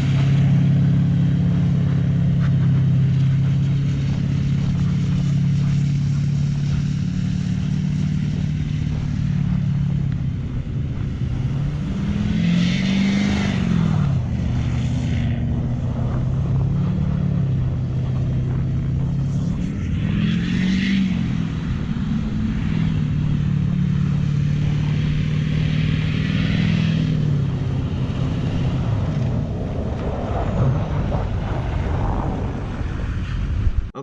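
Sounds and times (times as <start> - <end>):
diesel engine idling and revving: 0.0 - 34.0.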